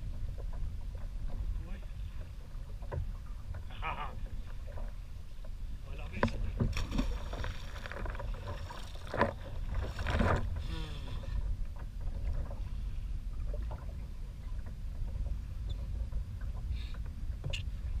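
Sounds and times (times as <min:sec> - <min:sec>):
waves lapping against kayak hull: 0:00.0 - 0:18.0
wind rumbling on microphone: 0:00.0 - 0:18.0.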